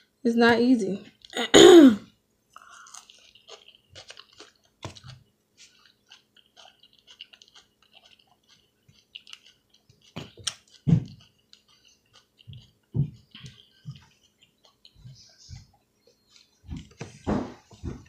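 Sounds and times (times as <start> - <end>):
person chewing salad: 1.1 - 1.4, 2.1 - 18.0.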